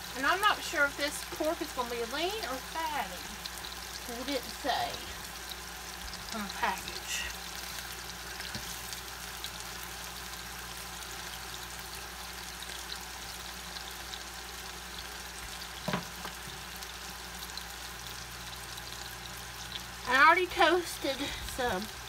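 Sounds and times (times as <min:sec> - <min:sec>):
patties sizzling in skillet: 0:00.0 - 0:22.0.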